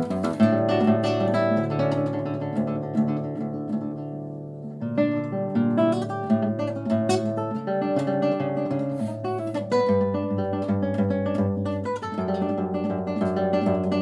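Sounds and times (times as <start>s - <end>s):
classical guitar fingerstyle: 0.0s - 14.0s.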